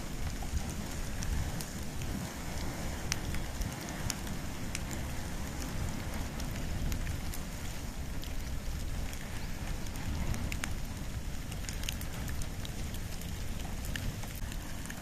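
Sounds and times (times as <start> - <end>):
fire crackling and popping: 0.0 - 15.0
low fire rumble: 0.0 - 15.0.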